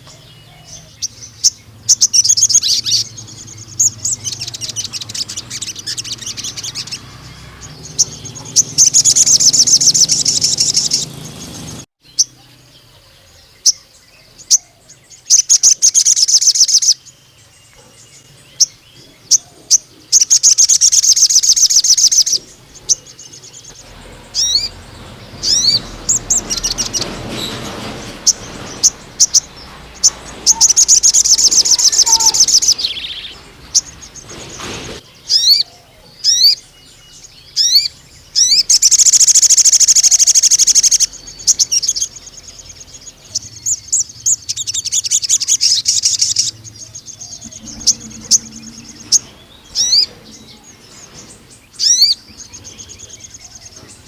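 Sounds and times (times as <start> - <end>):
bird singing high trills: 0.0 - 54.0.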